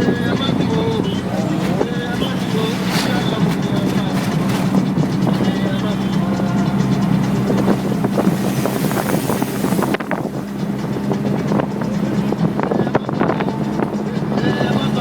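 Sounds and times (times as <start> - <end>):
wind noise rush: 0.0 - 14.8
rattles and knocks: 0.0 - 15.0
vehicle engine droning: 0.0 - 15.0.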